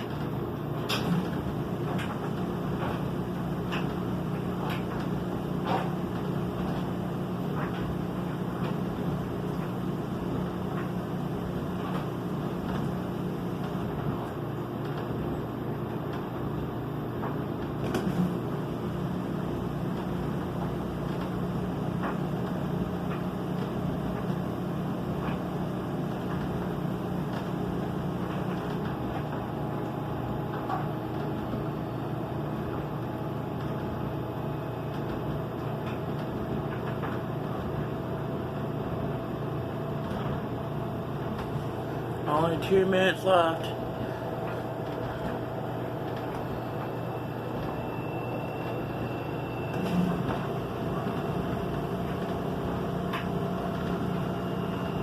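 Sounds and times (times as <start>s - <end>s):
washing machine hum: 0.0s - 55.0s.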